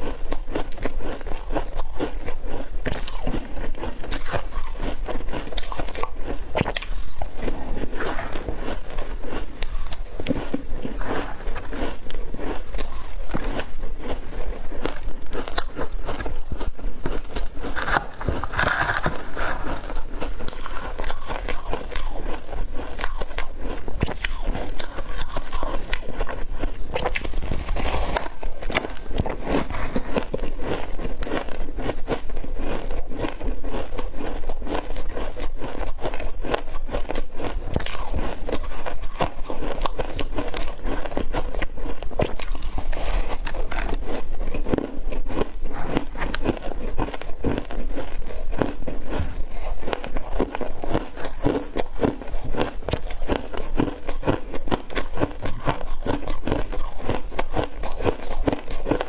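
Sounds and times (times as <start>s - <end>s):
ice crunching while chewed: 0.0s - 59.0s.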